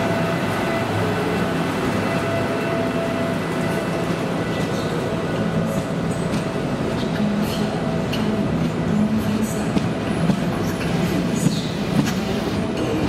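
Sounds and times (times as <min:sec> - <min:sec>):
train rumbling past on rails: 0:00.0 - 0:13.0.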